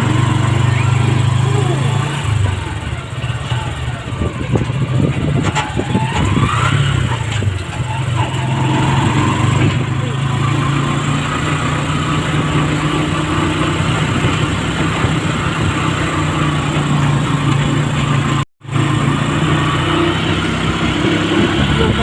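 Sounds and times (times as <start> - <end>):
vehicle engine running: 0.0 - 22.0
wind and road noise: 0.0 - 22.0.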